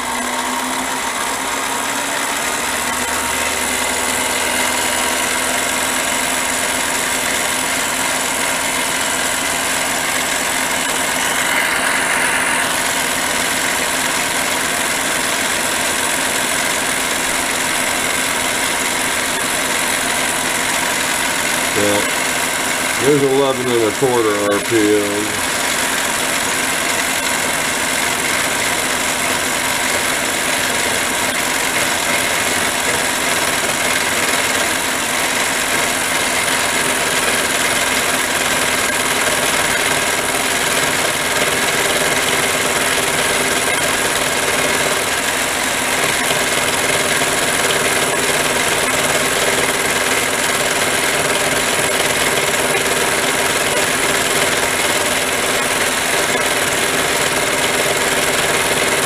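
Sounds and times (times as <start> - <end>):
lathe motor and gear whine: 0.0 - 59.0.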